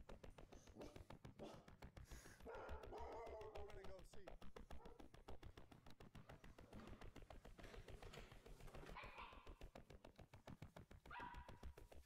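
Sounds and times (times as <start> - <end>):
soft rapid ticks: 0.0 - 12.0.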